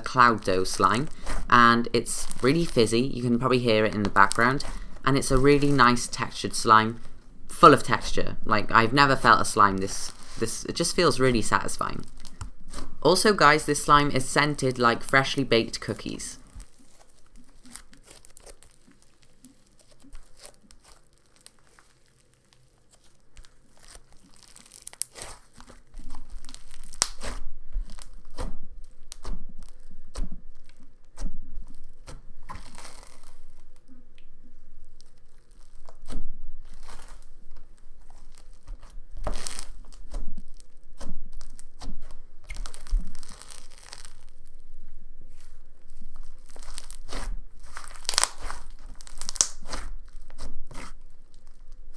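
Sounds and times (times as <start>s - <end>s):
slime crackling and tearing: 0.0s - 51.9s.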